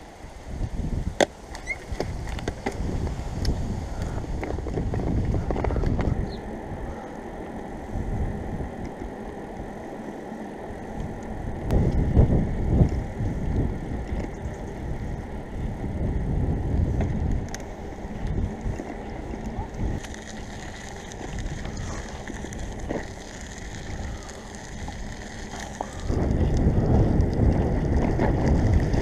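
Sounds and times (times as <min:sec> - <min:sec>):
wind buffeting microphone: 0:00.0 - 0:29.0
bicycle clicks: 0:01.1 - 0:29.0
tyres rumbling on pavement: 0:01.1 - 0:29.0.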